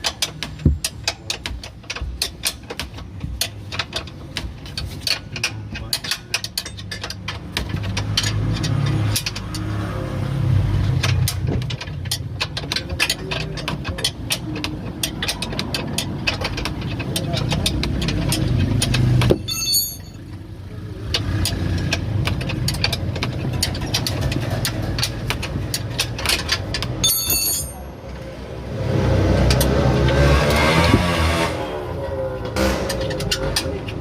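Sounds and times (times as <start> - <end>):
metallic clicking of hand tools: 0.0 - 20.4, 21.0 - 27.9, 29.0 - 34.0.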